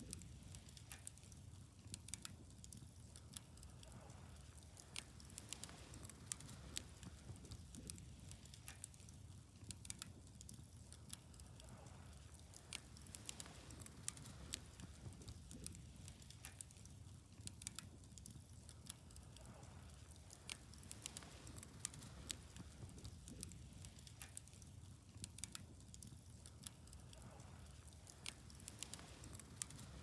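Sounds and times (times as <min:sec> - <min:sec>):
bonfire crackling and popping: 0:00.0 - 0:30.0
low steady fire rumble: 0:00.0 - 0:30.0.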